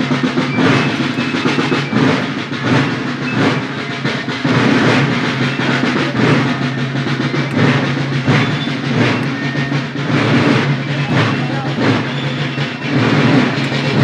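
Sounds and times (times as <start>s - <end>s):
military side drums marching: 0.0s - 14.0s.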